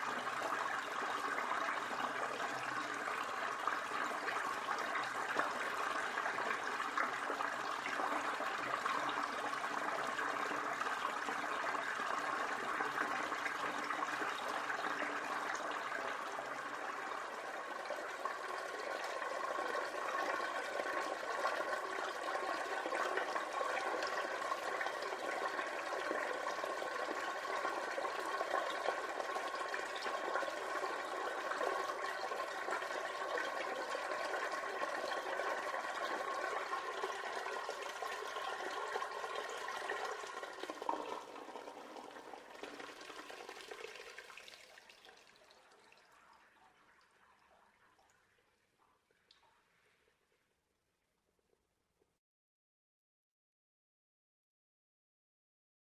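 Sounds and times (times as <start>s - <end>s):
tap water filling bathtub: 0.0s - 50.0s.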